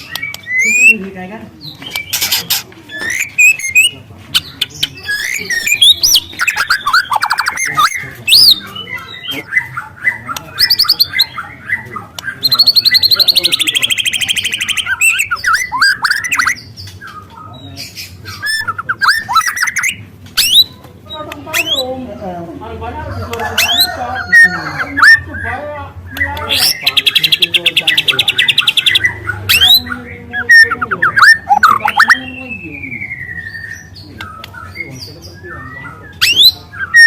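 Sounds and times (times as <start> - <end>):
bird singing with whistles and trills: 0.0 - 22.0, 23.5 - 37.0.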